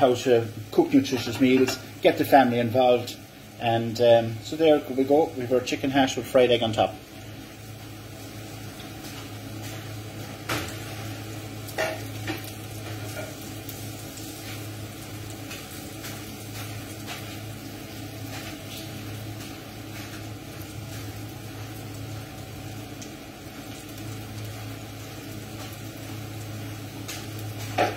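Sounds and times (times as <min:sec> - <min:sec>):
food sizzling in a frying pan: 0:00.0 - 0:27.9.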